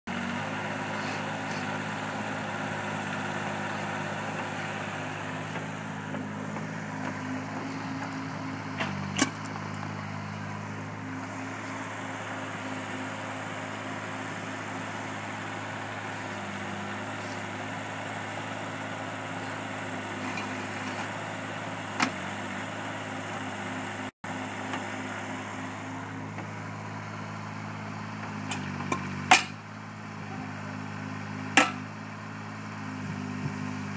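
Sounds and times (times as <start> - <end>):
mini excavator diesel engine: 0.0 - 33.9.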